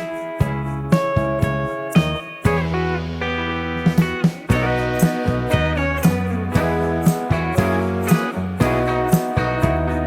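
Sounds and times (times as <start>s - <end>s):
guitar-led music with bass: 0.0s - 10.0s.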